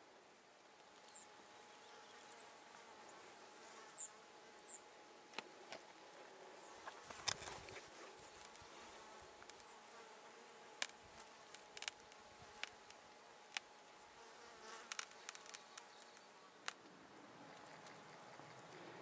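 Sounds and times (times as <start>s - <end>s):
faint insect buzzing: 0.0s - 16.8s.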